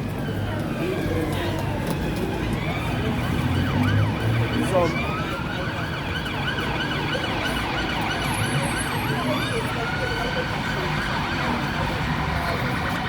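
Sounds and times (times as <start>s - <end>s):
low traffic rumble: 0.0s - 13.0s
emergency siren yelping: 0.2s - 13.0s.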